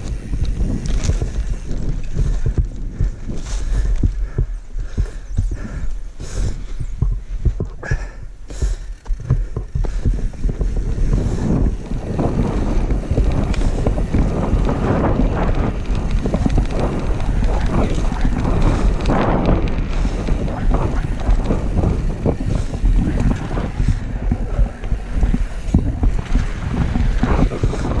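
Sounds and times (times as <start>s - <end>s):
bike knocking over bumps: 0.0s - 28.0s
bike tyres crunching on dirt: 0.0s - 28.0s
wind buffeting microphone: 0.0s - 28.0s.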